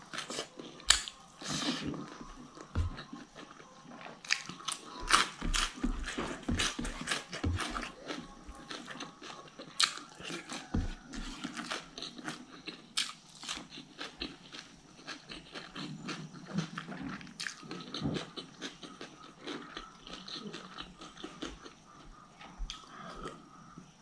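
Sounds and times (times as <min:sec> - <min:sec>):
chewing crunchy food: 0:00.0 - 0:24.0.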